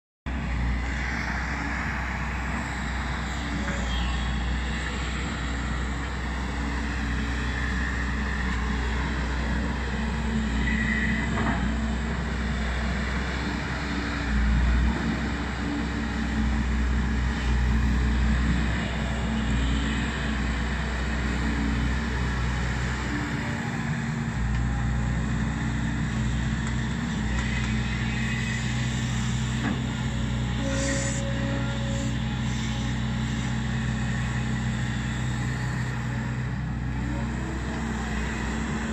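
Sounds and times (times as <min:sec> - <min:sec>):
excavator diesel engine running: 0:00.3 - 0:38.9.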